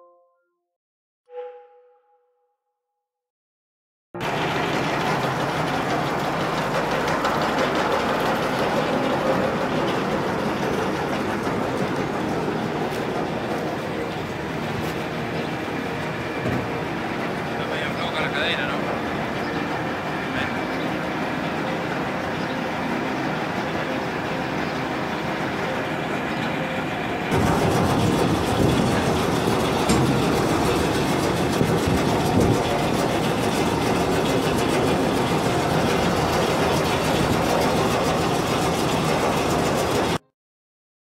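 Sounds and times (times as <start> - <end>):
feed mixer drone and rattle: 4.2 - 40.2.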